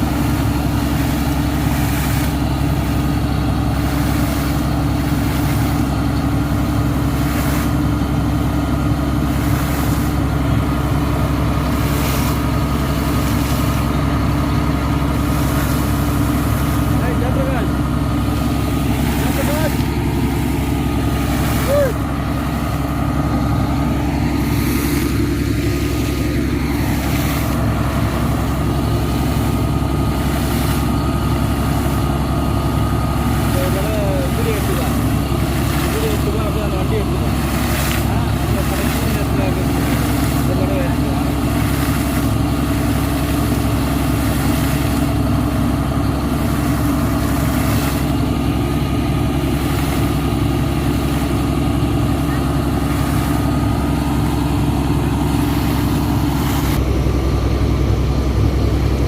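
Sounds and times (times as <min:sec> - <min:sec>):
air compressor engine drone: 0:00.0 - 0:59.0.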